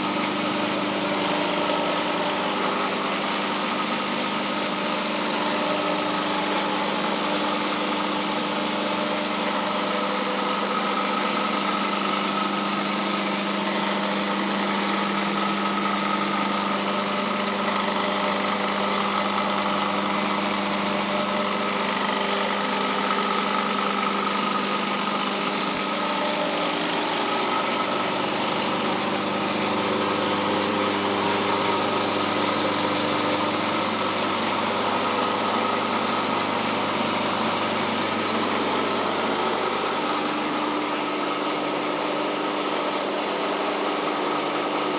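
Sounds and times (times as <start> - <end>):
belt grinder motor humming: 0.0 - 44.9
grinder belt whir: 0.0 - 44.9.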